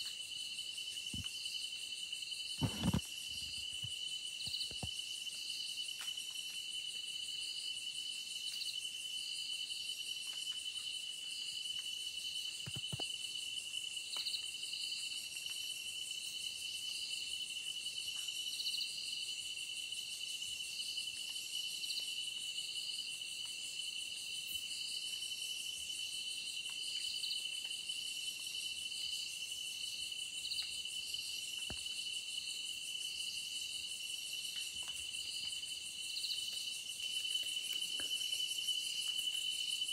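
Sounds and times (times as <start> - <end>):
insect pulsing chirp: 0.0 - 7.6, 8.3 - 15.0, 20.6 - 39.9.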